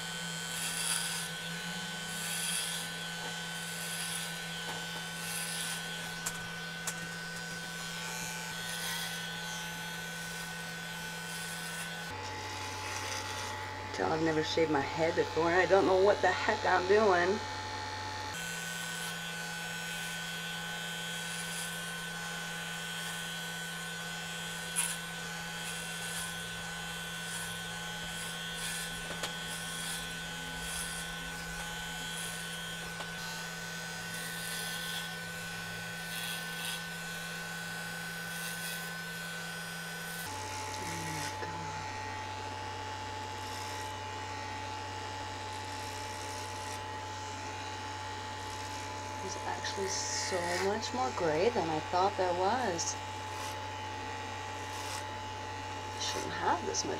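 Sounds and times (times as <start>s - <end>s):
electric hair clippers buzzing: 0.0s - 56.9s.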